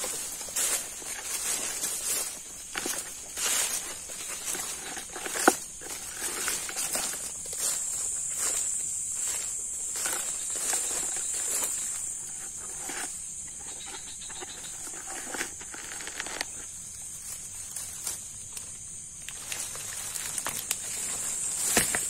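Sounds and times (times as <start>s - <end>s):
chorus of night insects: 0.0s - 22.0s
rustling through brush: 0.0s - 22.0s.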